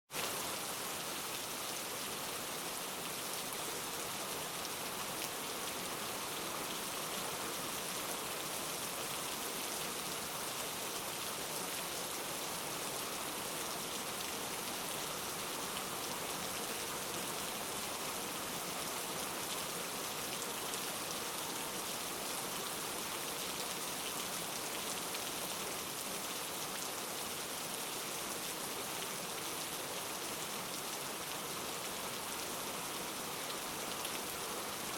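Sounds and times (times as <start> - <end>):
rain falling on a surface: 0.1 - 34.9.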